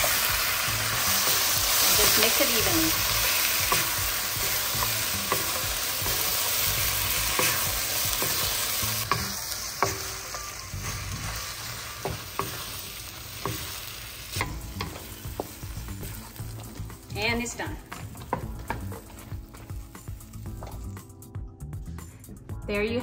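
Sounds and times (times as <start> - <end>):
food sizzling in a wok: 0.0 - 21.1
spatula scraping and knocking pan: 1.2 - 21.0.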